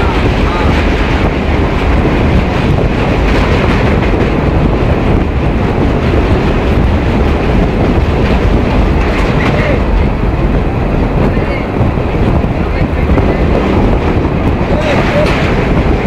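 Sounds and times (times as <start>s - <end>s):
train rumbling over bridge: 0.0s - 16.0s
wind buffeting microphone: 0.0s - 16.0s.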